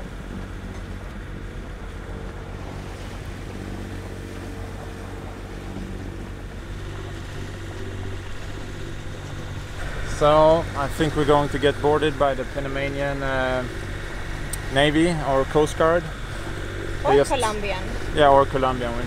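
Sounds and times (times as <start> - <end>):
boat engine droning: 0.0 - 19.0
sea noise: 0.0 - 19.0
wind: 0.0 - 19.0.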